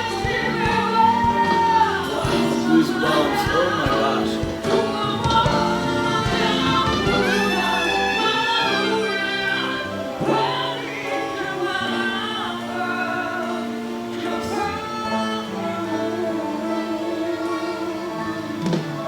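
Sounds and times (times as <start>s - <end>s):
men singing pop ballad: 0.0s - 19.0s
sustained instrumental chords: 0.0s - 19.0s.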